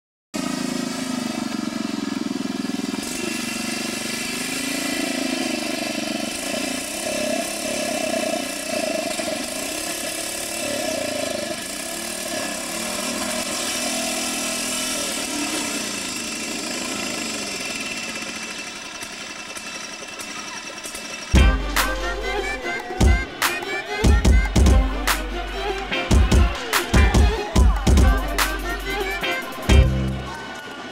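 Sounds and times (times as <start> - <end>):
riding lawn mower engine running: 0.4 - 30.9.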